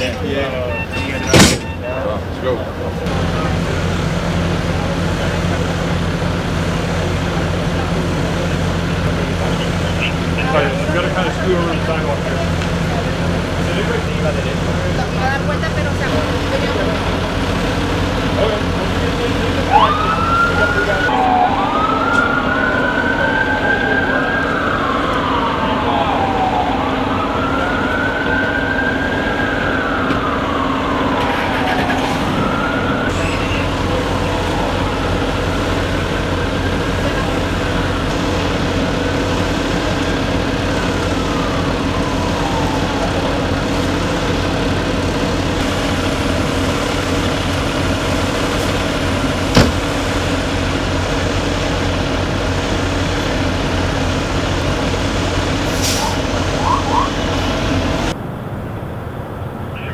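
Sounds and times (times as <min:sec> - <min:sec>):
ambulance siren wailing: 0:00.0 - 0:58.2, 0:59.6 - 0:59.9
engine drone: 0:00.0 - 0:59.9.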